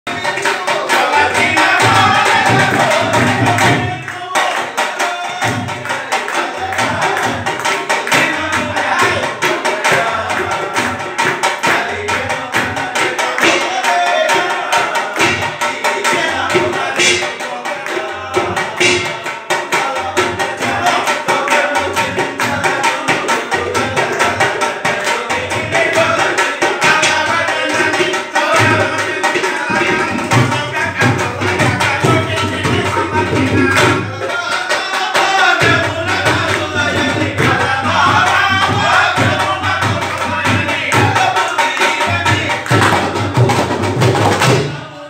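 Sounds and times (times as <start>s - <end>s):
group of voices singing: 0.1s - 45.0s
hand drums playing: 0.1s - 45.0s.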